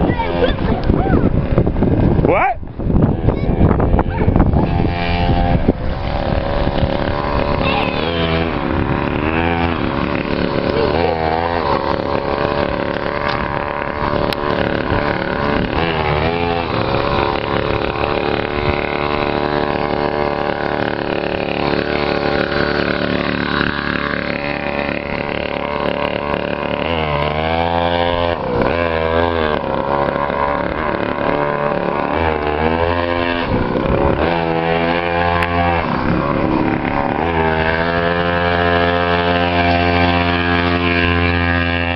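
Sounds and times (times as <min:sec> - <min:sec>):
small motorcycle engine revving: 0:00.0 - 0:41.9.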